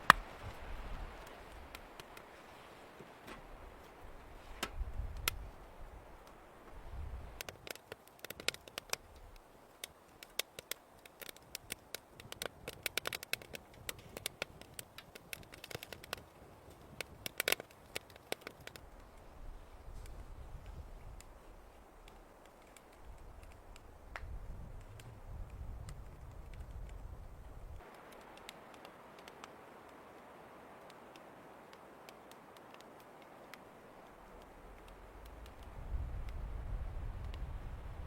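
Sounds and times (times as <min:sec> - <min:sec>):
wood fire crackling and popping: 0:00.0 - 0:02.3, 0:04.6 - 0:05.4, 0:06.2 - 0:19.2, 0:19.9 - 0:38.0.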